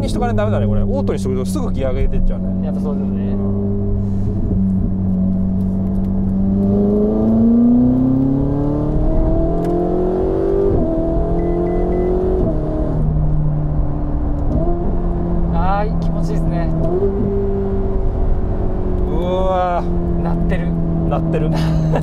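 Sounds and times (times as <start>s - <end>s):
sports car engine accelerating: 0.0s - 22.0s.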